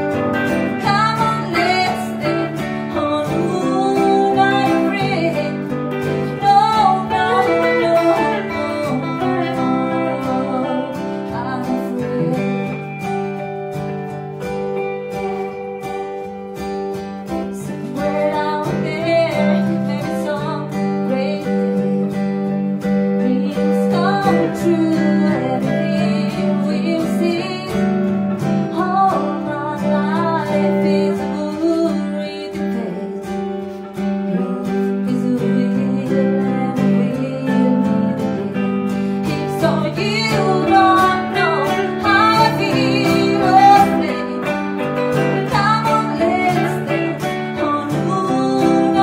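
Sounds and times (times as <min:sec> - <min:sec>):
acoustic guitar strumming: 0:00.0 - 0:49.0
clean electric guitar: 0:00.0 - 0:49.0
woman singing: 0:00.0 - 0:49.0.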